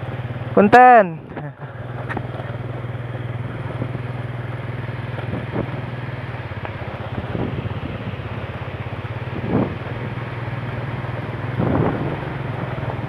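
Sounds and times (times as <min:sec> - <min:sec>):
road noise: 0:00.0 - 0:13.0
scooter engine humming: 0:00.0 - 0:13.0.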